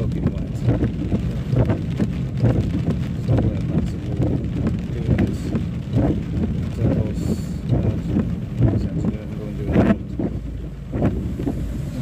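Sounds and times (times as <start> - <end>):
engine and tyres on wet road: 0.0 - 12.0
low thumps: 0.0 - 12.0.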